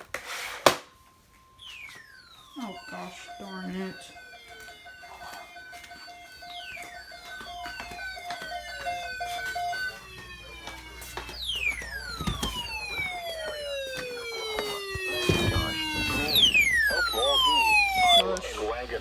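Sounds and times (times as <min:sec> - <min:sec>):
pulsing beeping tones: 0:01.4 - 0:19.0
siren wails sliding down: 0:01.6 - 0:18.9.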